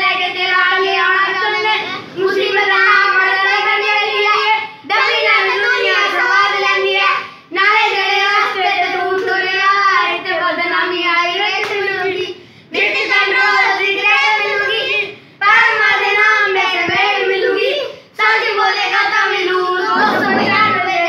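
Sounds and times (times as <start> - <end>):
boys singing without instruments: 0.0 - 21.0.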